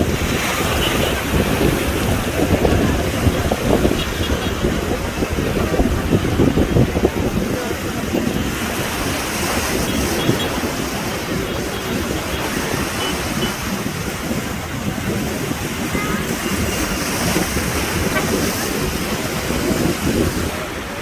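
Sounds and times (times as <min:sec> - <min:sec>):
rough sea surf: 0:00.0 - 0:21.0
wind buffeting microphone: 0:00.0 - 0:21.0.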